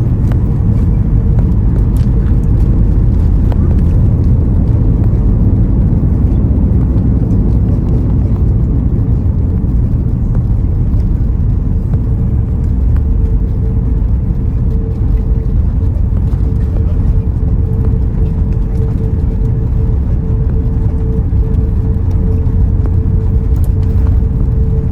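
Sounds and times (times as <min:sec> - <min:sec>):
engine and airflow rumble: 0:00.0 - 0:24.9
faint steady hum: 0:00.0 - 0:24.9.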